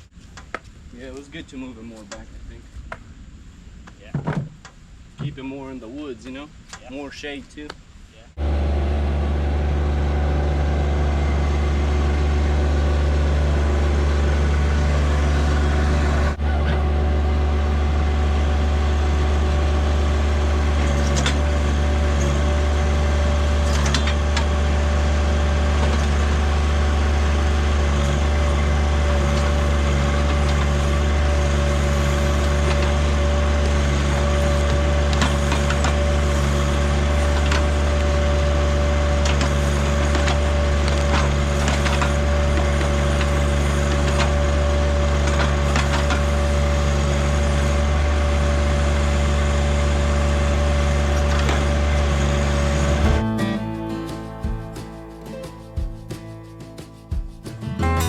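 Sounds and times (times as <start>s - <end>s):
steady whine: 0.0s - 56.0s
tractor engine running: 8.4s - 58.0s.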